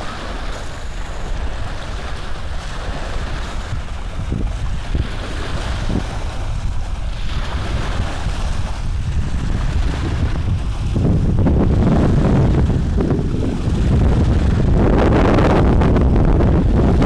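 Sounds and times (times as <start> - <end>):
low rumbling noise: 0.8 - 17.0.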